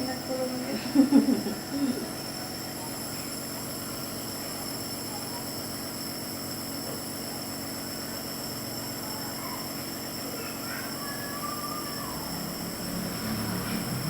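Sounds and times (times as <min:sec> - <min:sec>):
nebulizer compressor humming: 0:00.0 - 0:14.0.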